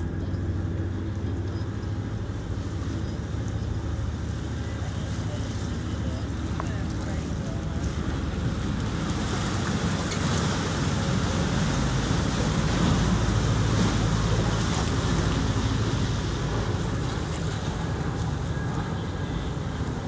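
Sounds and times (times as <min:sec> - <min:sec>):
motorboat engine running: 0:00.0 - 0:20.0
water rushing along hull: 0:00.0 - 0:20.0.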